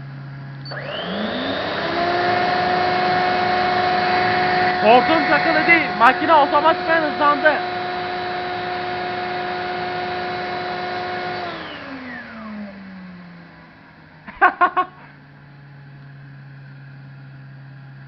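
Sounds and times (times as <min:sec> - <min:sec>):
vacuum motor whining: 0:00.0 - 0:18.0.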